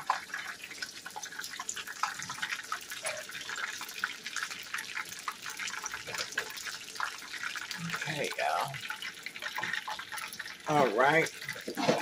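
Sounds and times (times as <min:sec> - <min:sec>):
oil frying and crackling: 0:00.0 - 0:12.0.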